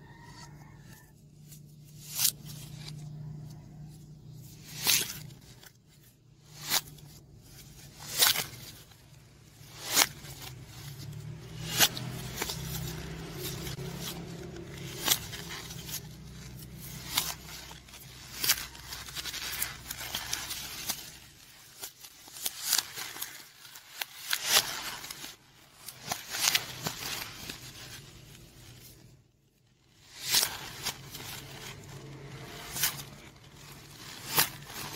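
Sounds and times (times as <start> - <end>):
foam rustling and crunching: 0.0 - 34.9
polystyrene foam cracking: 1.8 - 34.9.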